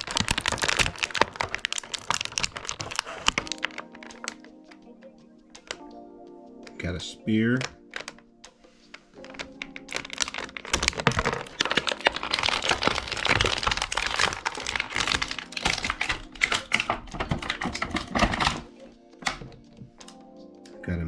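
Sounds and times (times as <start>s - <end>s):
plastic packaging clicks and rustles: 0.0s - 4.9s, 7.5s - 20.2s.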